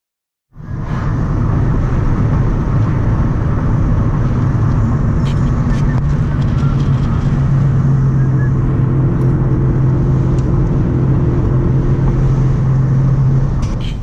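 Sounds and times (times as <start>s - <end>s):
car engine and road noise: 0.5s - 14.0s.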